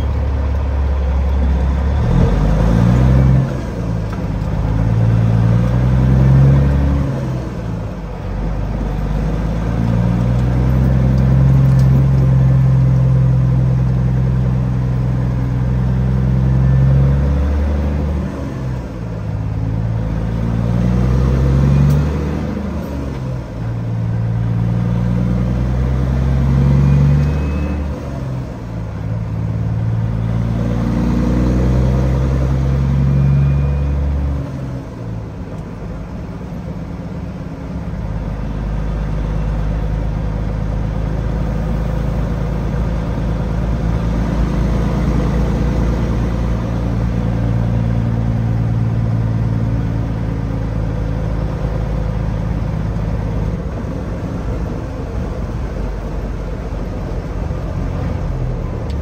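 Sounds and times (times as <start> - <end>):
truck diesel engine: 0.0 - 59.0.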